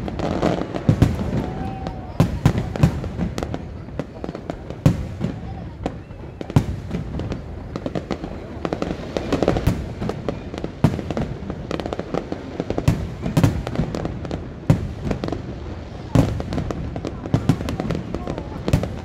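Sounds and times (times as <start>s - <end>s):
firework bangs and crackles: 0.0s - 19.0s
heavy firework booms: 0.0s - 19.0s.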